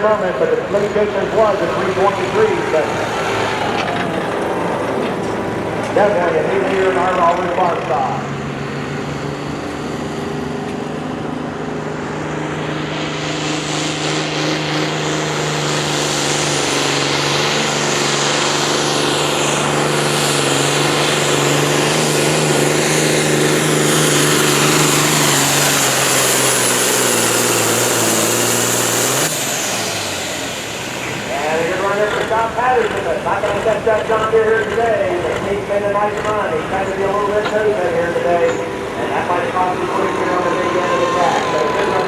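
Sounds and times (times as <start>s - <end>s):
rush of noise: 0.0s - 42.0s
tractor engine running hard: 0.0s - 42.0s.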